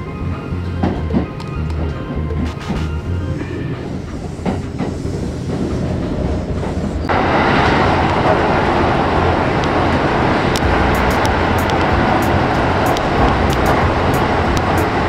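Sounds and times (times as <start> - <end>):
loud steady rushing noise: 0.0 - 15.0
train rumble: 0.0 - 15.0
train wheel clacks: 0.8 - 15.0.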